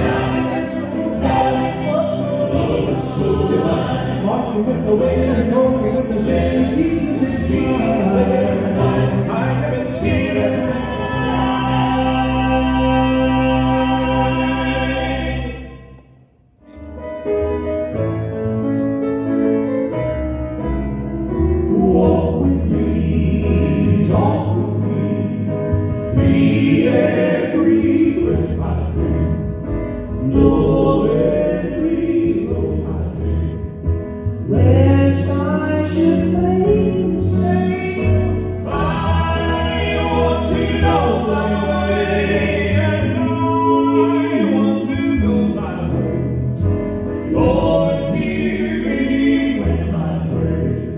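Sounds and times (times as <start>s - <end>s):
gospel choir singing in harmony: 0.0s - 16.2s, 20.8s - 50.9s.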